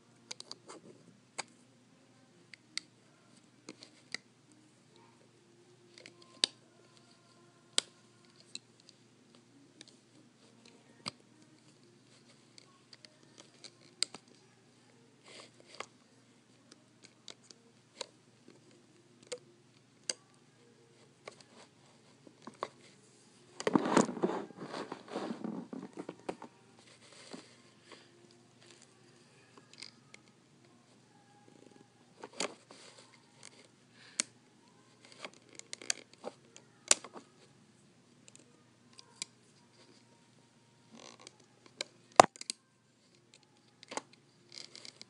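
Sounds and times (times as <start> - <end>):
rustling and handling noise: 2.8 - 45.0.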